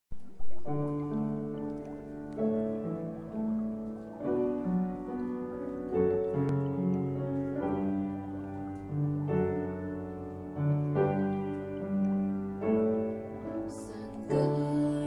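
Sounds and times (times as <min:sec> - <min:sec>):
slow gentle piano music: 0:00.1 - 0:15.0.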